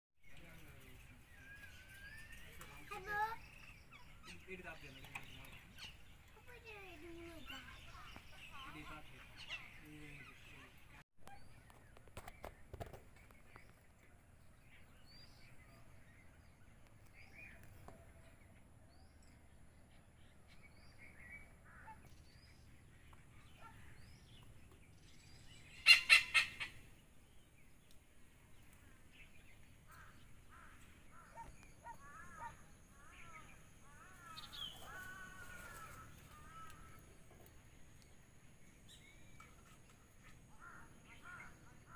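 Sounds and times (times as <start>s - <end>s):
birds chirping: 0.2s - 41.9s.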